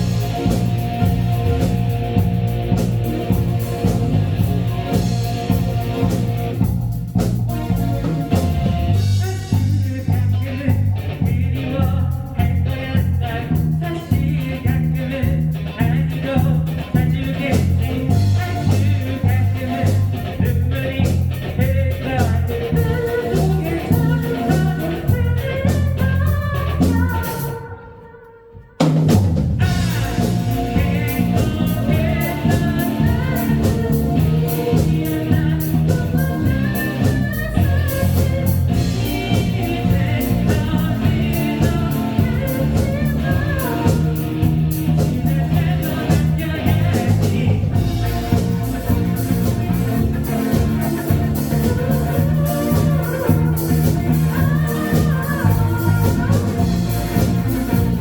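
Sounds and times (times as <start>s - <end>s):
live pop-rock band: 0.0s - 58.0s
person singing: 7.6s - 28.9s, 29.6s - 58.0s.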